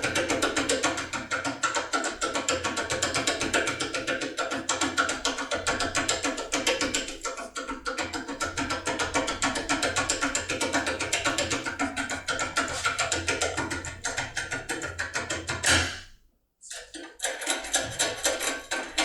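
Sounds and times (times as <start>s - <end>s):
music with fast percussive beat: 0.0s - 16.1s.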